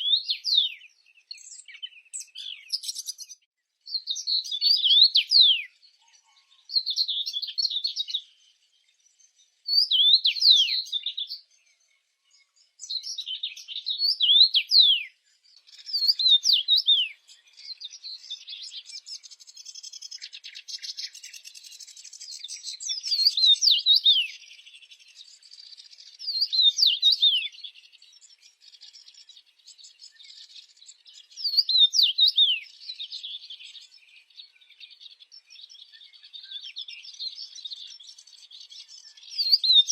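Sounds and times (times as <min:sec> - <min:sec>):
soft bird twittering: 0:00.0 - 0:39.9
songbird chirps and whistles: 0:00.0 - 0:39.9.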